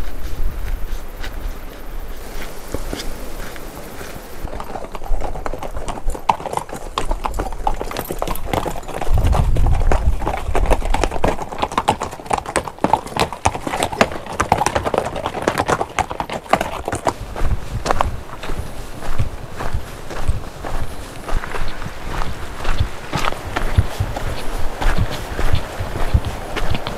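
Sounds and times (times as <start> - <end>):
mule hooves on rocky trail: 0.0 - 26.9.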